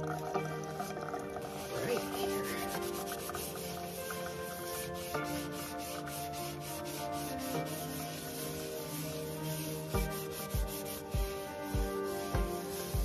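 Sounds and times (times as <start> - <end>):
background music with low beat: 0.0 - 13.0
sponge scrubbing a sink: 1.4 - 13.0.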